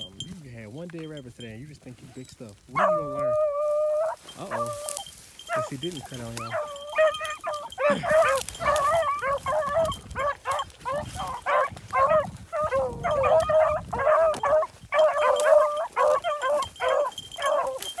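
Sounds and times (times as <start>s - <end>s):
beagles baying: 0.0s - 18.0s.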